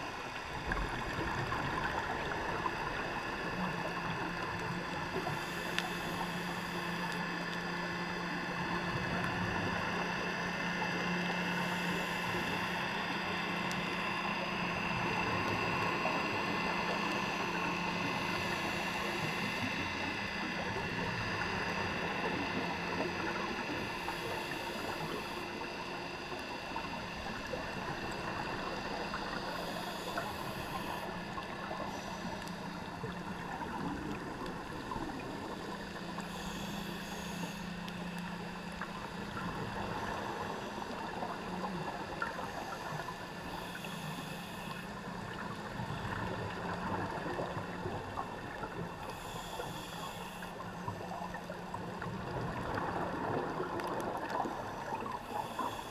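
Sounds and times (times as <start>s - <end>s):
low steady hum: 0.0s - 55.9s
underwater crackle: 0.0s - 55.9s.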